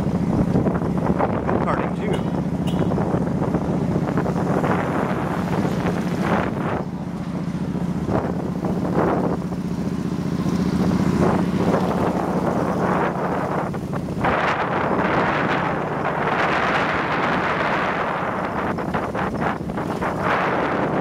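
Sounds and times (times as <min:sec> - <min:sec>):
motorbike engine hum: 0:00.0 - 0:21.0
wind buffeting microphone: 0:00.0 - 0:21.0.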